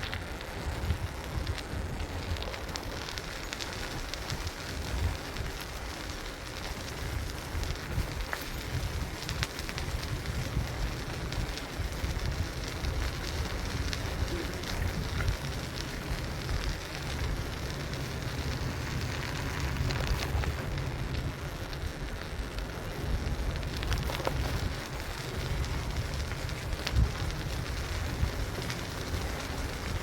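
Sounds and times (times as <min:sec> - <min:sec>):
bicycle road rumble: 0:00.0 - 0:30.0
wind buffeting microphone: 0:00.0 - 0:30.0.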